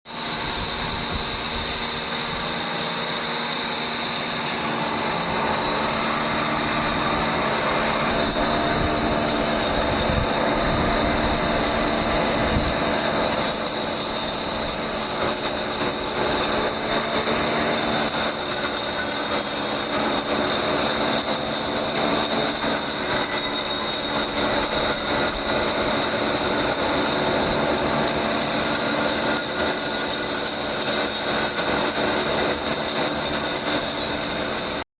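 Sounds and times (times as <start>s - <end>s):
sawmill machine running: 0.1s - 34.9s.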